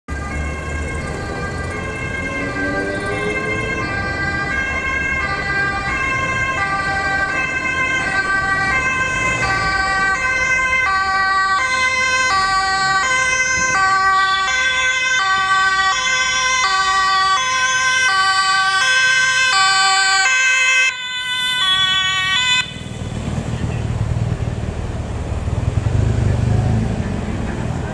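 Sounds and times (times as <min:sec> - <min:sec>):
two-tone police sirens: 0:00.1 - 0:24.8.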